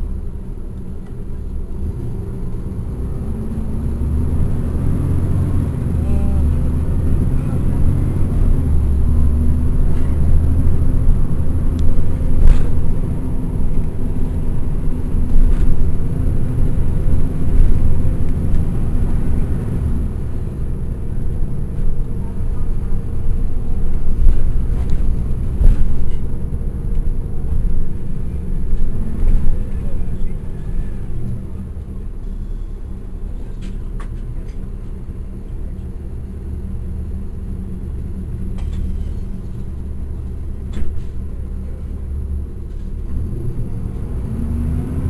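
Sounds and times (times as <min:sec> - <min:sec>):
bus diesel engine drone: 0:00.0 - 0:45.0.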